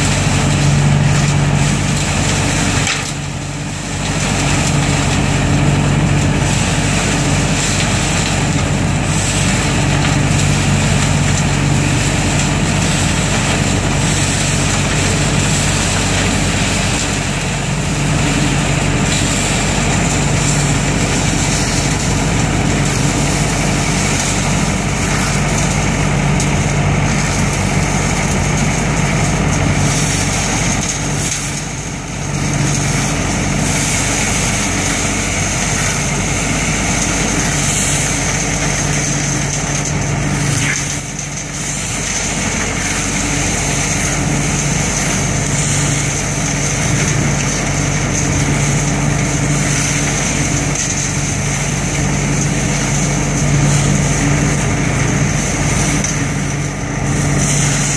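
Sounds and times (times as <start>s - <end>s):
leaf vacuum engine hum: 0.0s - 57.9s
rush of air and leaves: 0.0s - 57.9s.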